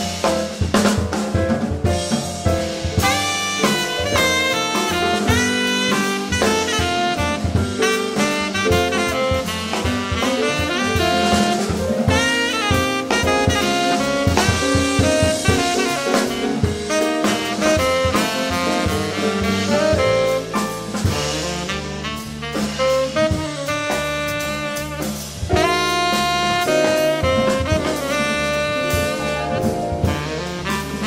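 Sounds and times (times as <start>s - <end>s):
double bass: 0.0s - 31.0s
drum kit: 0.0s - 31.0s
piano: 0.0s - 31.0s
tenor saxophone: 3.0s - 31.0s.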